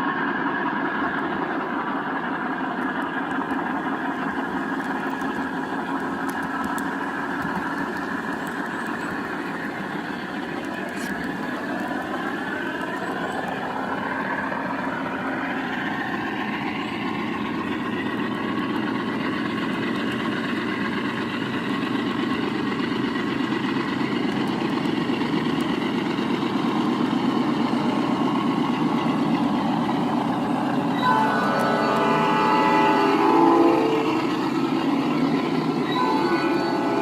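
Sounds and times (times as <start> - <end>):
model locomotive diesel engine sound: 0.0 - 37.0.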